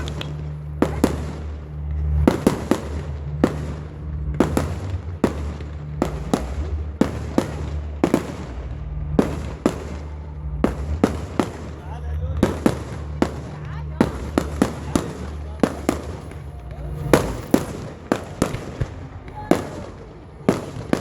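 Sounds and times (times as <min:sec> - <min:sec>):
steady low hum: 0:00.0 - 0:20.9
fireworks banging: 0:00.0 - 0:21.0.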